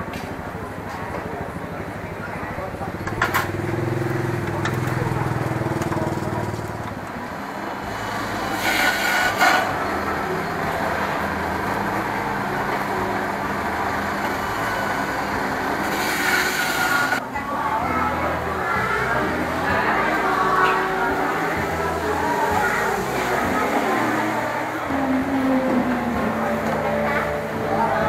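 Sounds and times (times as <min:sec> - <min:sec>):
indistinct voices and chatter: 0:00.0 - 0:28.0
vehicle engine running: 0:00.3 - 0:28.0.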